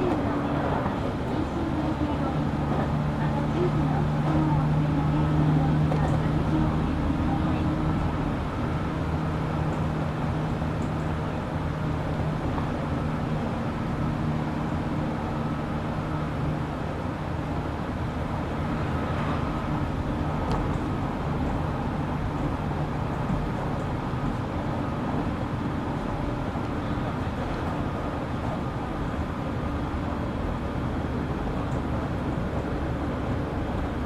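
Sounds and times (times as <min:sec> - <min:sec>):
rail and wheel noise: 0:00.0 - 0:34.0.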